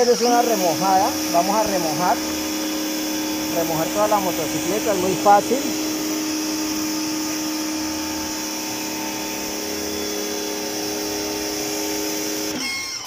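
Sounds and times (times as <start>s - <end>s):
water spray hissing: 0.0s - 12.6s
pressure washer motor hum: 0.0s - 13.0s.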